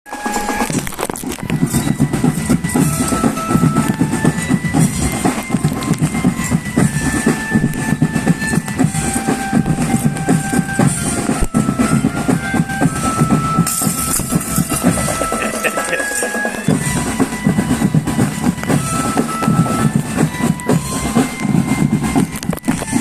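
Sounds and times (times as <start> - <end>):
melody of held notes: 0.1 - 23.0
rapid marching drums: 0.1 - 23.0.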